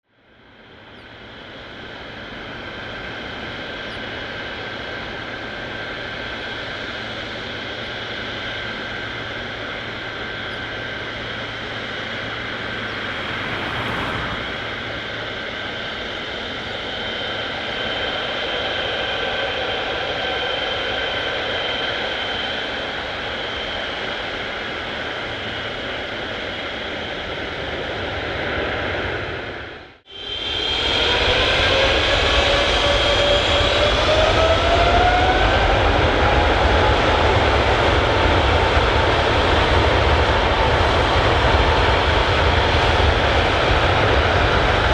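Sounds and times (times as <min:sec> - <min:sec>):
jet engines whining: 0:00.3 - 0:44.9.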